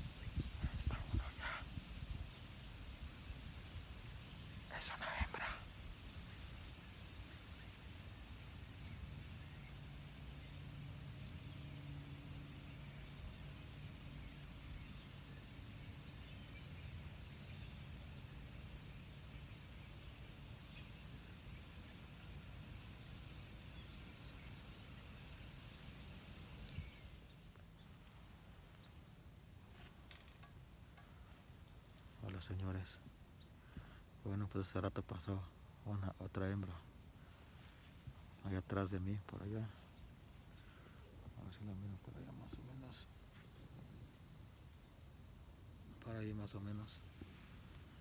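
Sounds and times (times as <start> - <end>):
faint low hum: 0.0 - 48.0
small birds chirping: 0.0 - 48.0.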